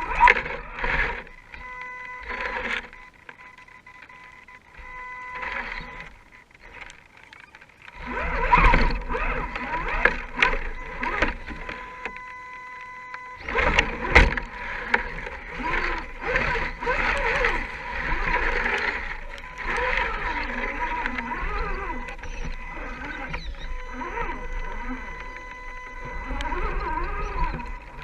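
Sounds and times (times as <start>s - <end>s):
small electric motor whining: 0.0s - 28.0s.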